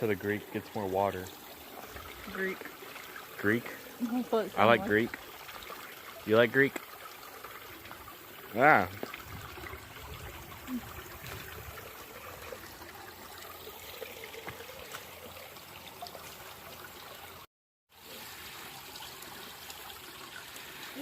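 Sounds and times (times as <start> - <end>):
creek trickling: 0.0 - 21.0.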